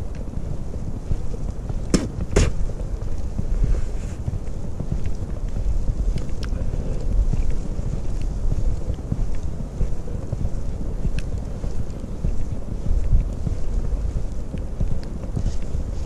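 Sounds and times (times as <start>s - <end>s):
snowshoe footsteps in snow: 0.0s - 16.0s
wind buffeting microphone: 0.0s - 16.0s.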